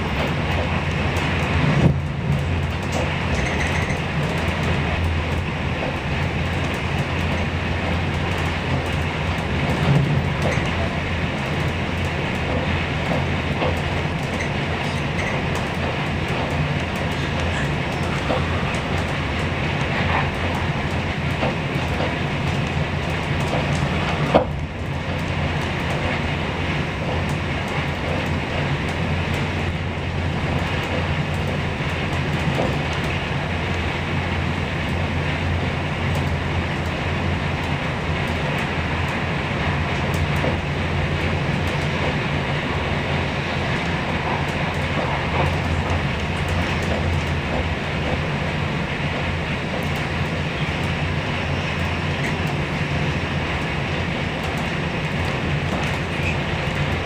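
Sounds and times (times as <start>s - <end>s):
train rumbling and rushing: 0.0s - 57.0s.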